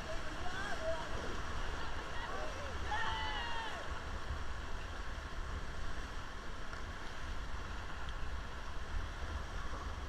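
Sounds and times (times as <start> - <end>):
rushing river water: 0.0 - 10.0
wind rumbling on microphone: 0.0 - 10.0.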